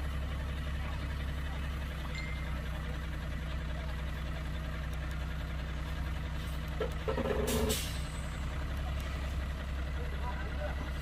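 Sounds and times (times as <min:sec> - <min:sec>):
diesel machinery engine rumbling: 0:00.0 - 0:11.0.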